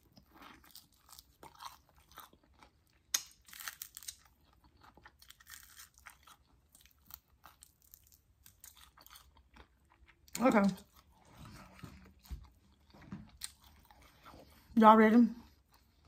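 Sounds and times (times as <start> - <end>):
crunching fried chicken: 0.0 - 14.3
chewing: 0.0 - 14.8.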